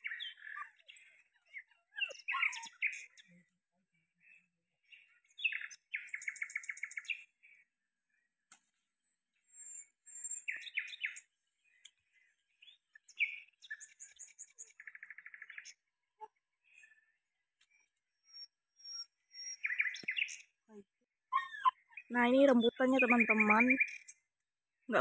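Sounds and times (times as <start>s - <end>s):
songbird trills: 0.0s - 3.5s, 4.2s - 8.6s, 9.4s - 20.6s, 21.3s - 24.3s.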